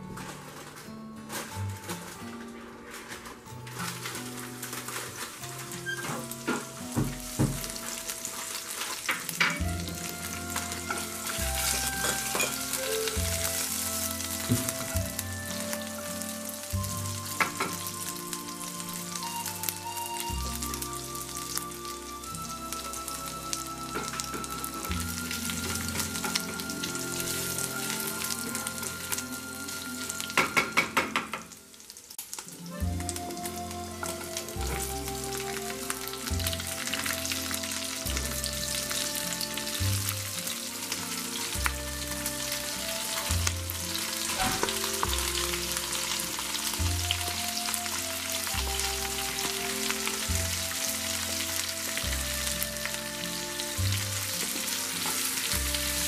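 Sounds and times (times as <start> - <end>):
soft background music: 0.0 - 56.0
oil sizzling in a frying pan: 3.7 - 56.0.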